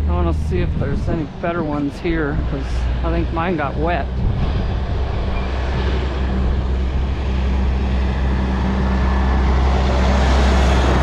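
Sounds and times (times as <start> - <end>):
road and wind noise: 0.0 - 11.0
vehicle engine low hum: 0.0 - 11.0.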